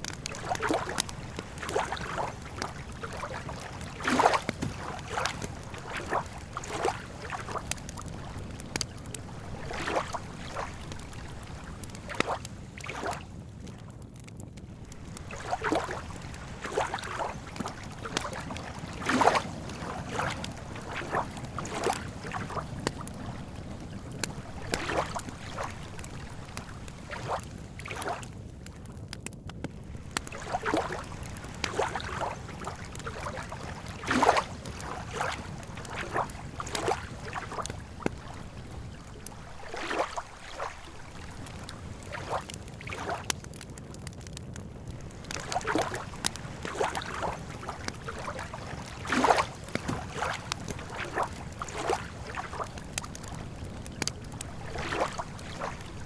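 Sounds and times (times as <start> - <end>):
lake water lapping: 0.0 - 13.4, 14.7 - 28.8, 29.7 - 44.0, 44.8 - 56.0
campfire crackling and popping: 0.0 - 56.0.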